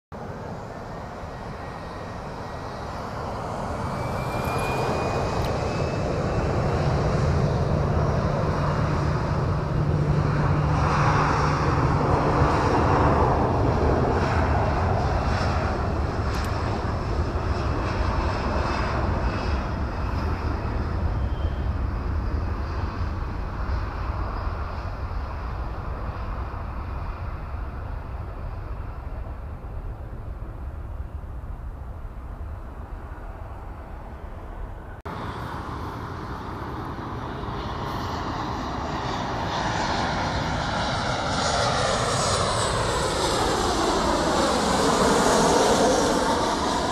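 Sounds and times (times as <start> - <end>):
jet engine roar: 0.2 - 46.9
jet engines whining: 0.2 - 46.9.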